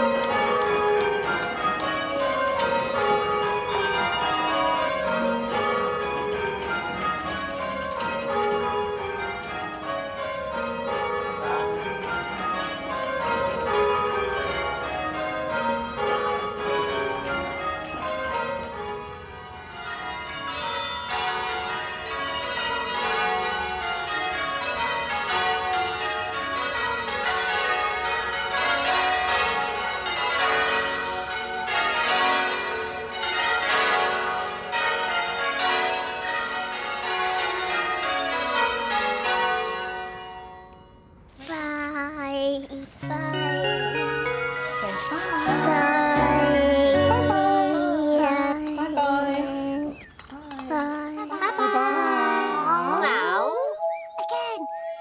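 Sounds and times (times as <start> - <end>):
church bells ringing rounds: 0.0 - 41.4, 42.0 - 55.0.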